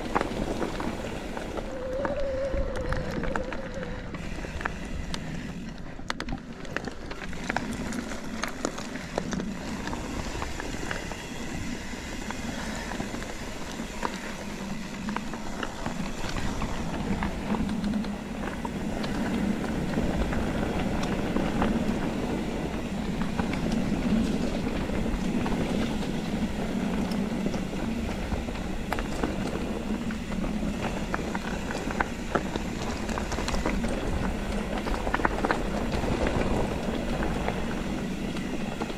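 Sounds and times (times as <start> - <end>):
tyres rumbling on dirt and stones: 0.0 - 38.9.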